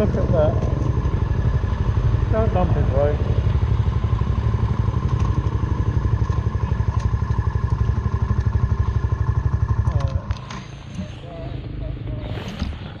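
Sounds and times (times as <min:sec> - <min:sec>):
motorcycle engine idling: 0:00.0 - 0:12.1.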